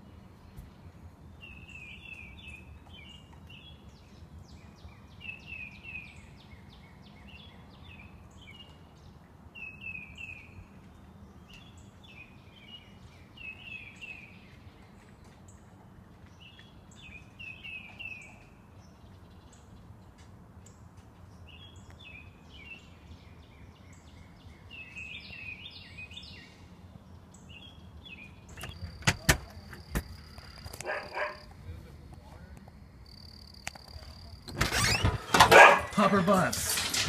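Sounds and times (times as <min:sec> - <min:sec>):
songbird chirping: 0:00.0 - 0:37.0.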